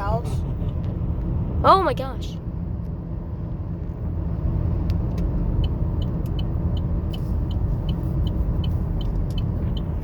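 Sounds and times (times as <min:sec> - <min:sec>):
car cabin driving rumble: 0:00.0 - 0:10.0.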